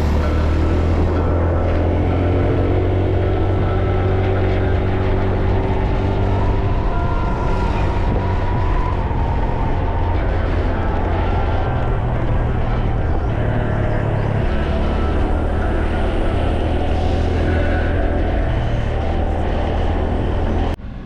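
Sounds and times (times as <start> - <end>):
road and wind noise: 0.0 - 21.0
scooter engine humming: 0.0 - 21.0.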